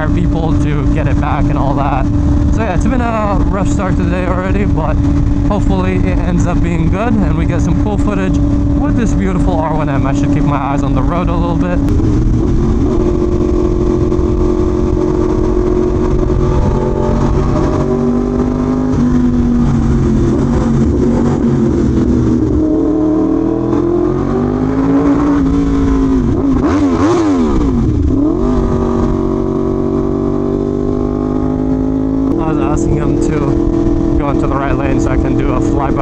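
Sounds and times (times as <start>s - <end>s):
motorcycle engine running: 0.0s - 36.0s
wind rush over microphone: 0.0s - 36.0s.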